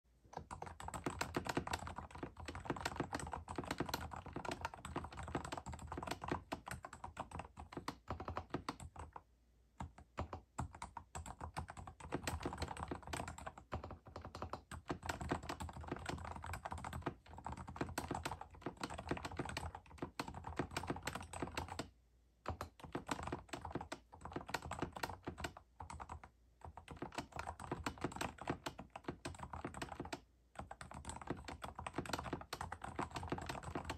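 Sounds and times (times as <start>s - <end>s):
typing on keyboard: 0.3s - 9.2s, 9.8s - 33.9s.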